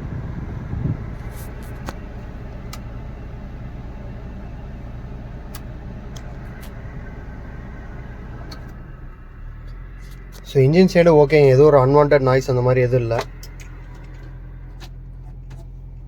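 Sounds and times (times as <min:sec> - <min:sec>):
air conditioning running: 0:00.0 - 0:16.0
car engine idling: 0:00.0 - 0:16.0.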